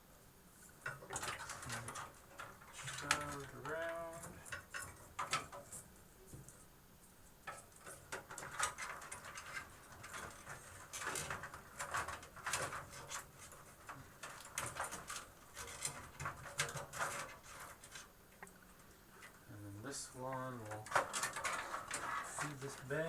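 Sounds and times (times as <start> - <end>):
cables rustling and scraping: 0.5 - 23.0.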